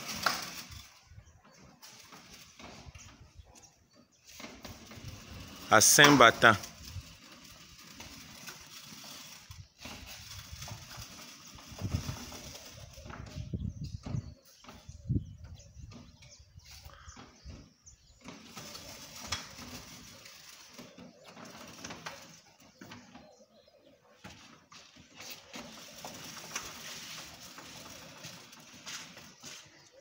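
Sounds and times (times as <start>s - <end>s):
door panels rolling on track: 0.0s - 1.0s, 1.6s - 16.2s, 17.2s - 23.3s, 24.2s - 29.5s.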